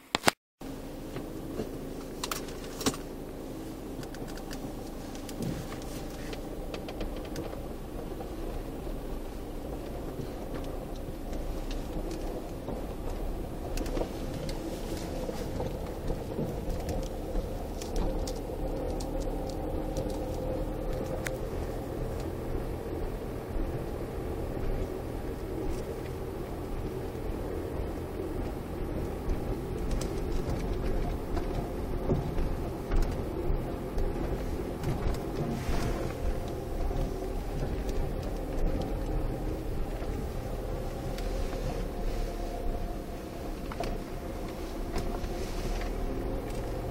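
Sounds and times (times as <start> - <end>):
car engine and tyre rumble: 0.0 - 46.9
wheels knocking over joints: 4.0 - 46.9.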